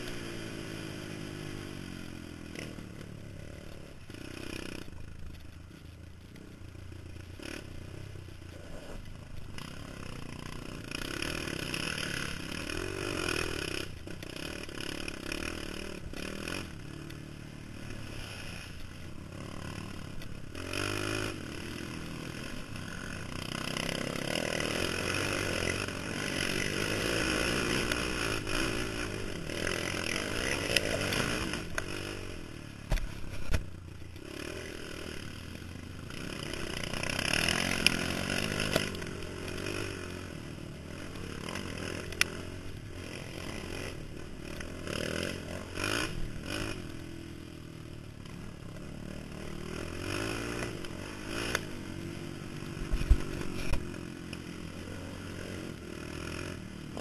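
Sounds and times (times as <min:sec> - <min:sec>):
quad engine revving: 0:07.4 - 0:57.0.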